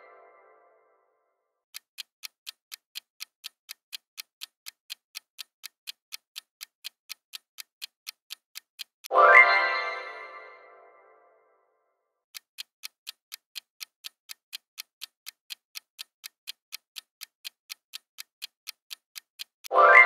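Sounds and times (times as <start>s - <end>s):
countdown timer ticking: 1.7s - 10.6s, 12.3s - 20.0s.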